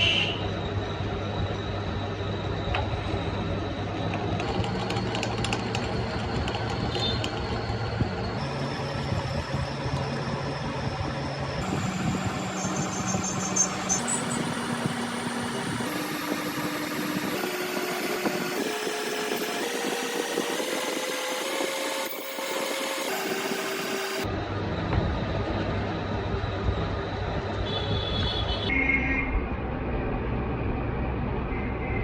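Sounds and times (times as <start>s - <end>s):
metal lathe running: 0.0s - 27.2s.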